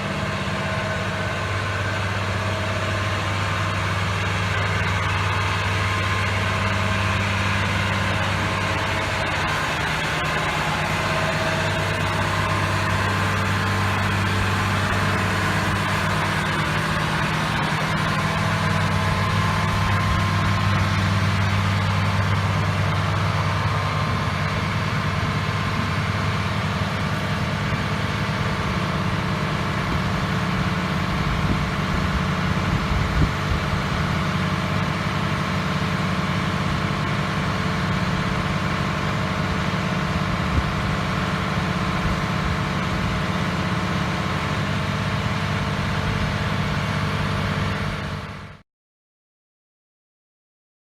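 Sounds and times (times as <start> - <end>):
excavator diesel engine running: 0.0 - 48.6.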